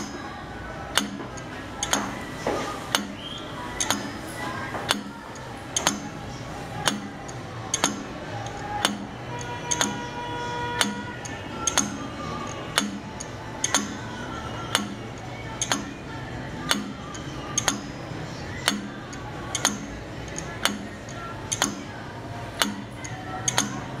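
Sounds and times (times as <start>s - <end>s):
clock escapement ticking: 0.0s - 2.3s, 2.9s - 24.0s.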